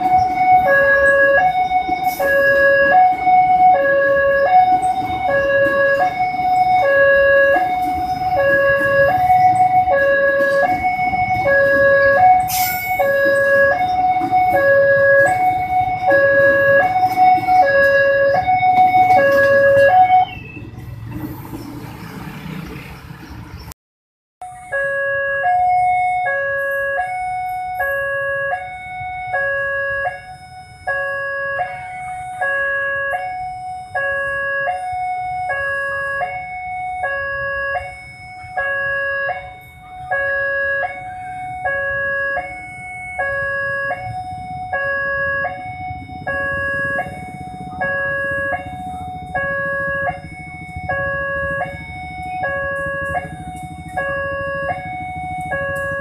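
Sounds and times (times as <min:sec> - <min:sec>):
two-tone level crossing alarm: 0:00.0 - 0:20.7, 0:24.4 - 0:56.0
low train rumble: 0:00.0 - 0:23.7, 0:24.4 - 0:56.0.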